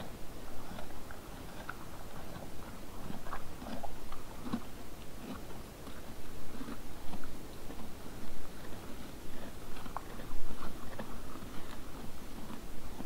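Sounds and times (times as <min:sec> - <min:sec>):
deer crunching hay: 0:00.0 - 0:13.0.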